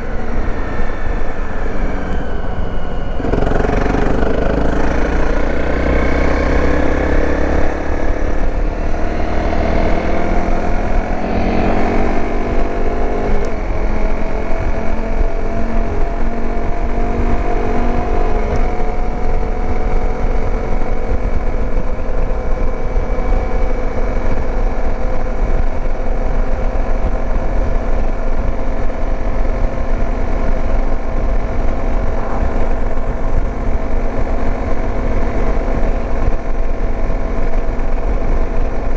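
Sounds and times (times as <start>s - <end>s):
dirt bike engine: 0.0s - 38.9s
wind rumble on microphone: 0.0s - 38.9s.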